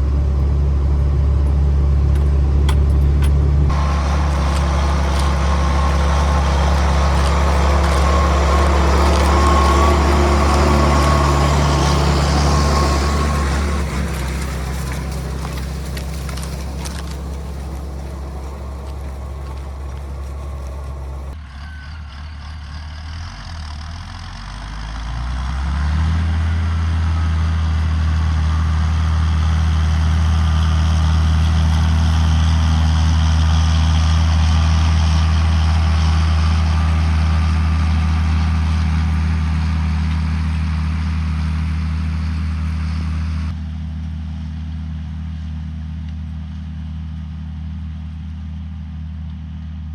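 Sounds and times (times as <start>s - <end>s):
tractor diesel engine running: 0.0s - 21.4s, 22.7s - 49.9s.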